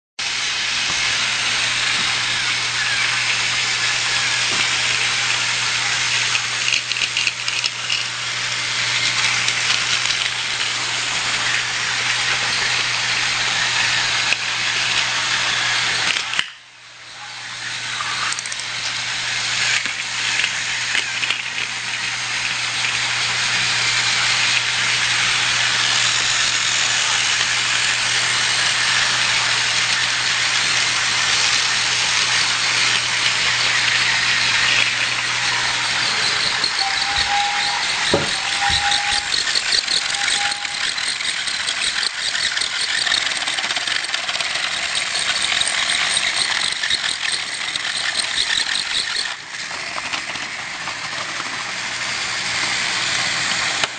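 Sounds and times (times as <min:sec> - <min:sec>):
toy train motor whirring: 0:00.2 - 0:53.9.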